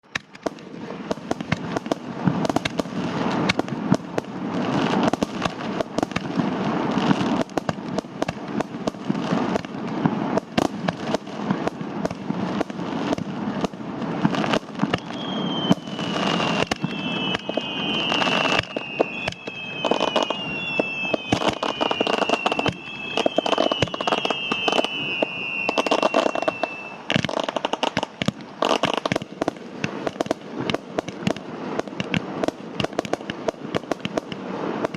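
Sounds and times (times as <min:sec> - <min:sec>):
fireworks bangs and crackles: 0:00.0 - 0:34.9
whistling firework shells: 0:00.0 - 0:34.9.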